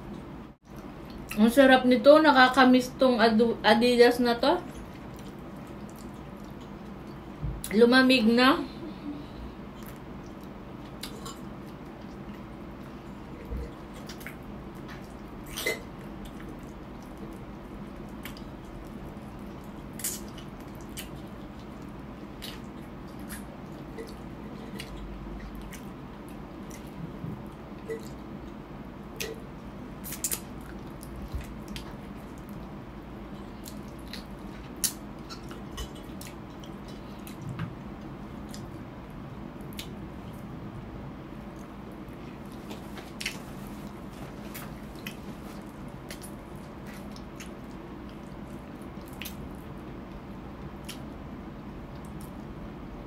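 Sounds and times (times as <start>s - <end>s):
low background hum: 0.0s - 53.0s
wet chewing smacks: 4.7s - 7.7s, 9.8s - 32.8s, 33.4s - 40.5s, 41.5s - 51.2s.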